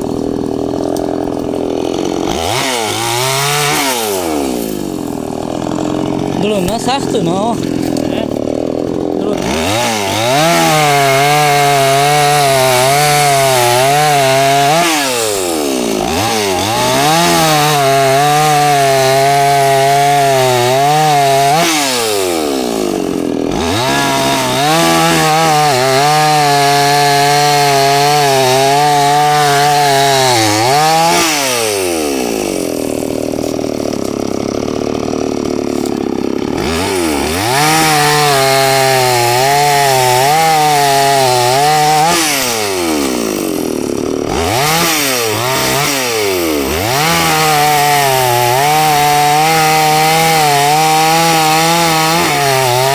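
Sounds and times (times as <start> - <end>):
chainsaw cutting branches: 0.0 - 52.9.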